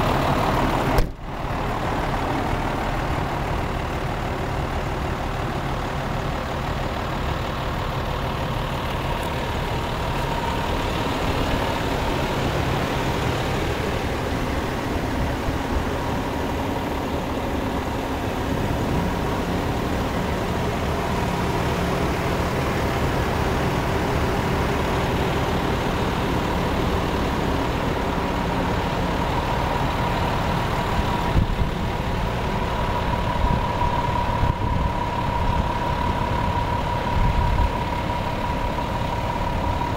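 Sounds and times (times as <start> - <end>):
diesel truck engine idling: 0.0 - 39.9
thin steady whine: 7.8 - 39.9.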